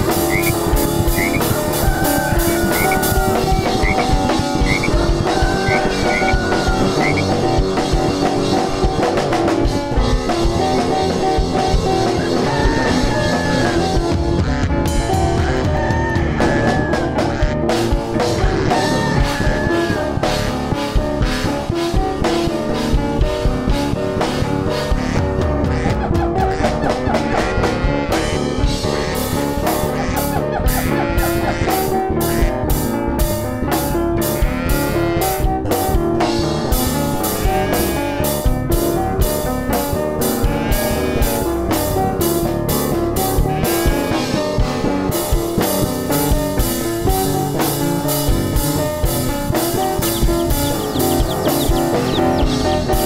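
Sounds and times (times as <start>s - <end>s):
music with drum kit: 0.0s - 53.0s.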